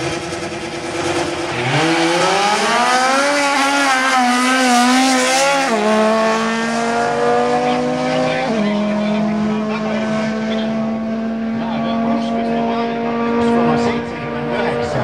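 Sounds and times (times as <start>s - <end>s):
car engines accelerating hard: 0.0s - 15.0s.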